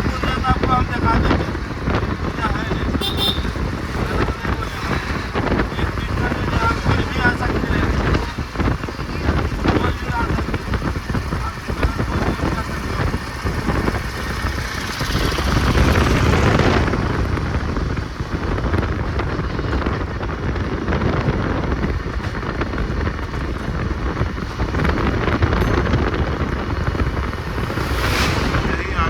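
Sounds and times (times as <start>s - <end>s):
vehicle moving along road: 0.0s - 29.0s
wind on microphone: 0.0s - 29.0s.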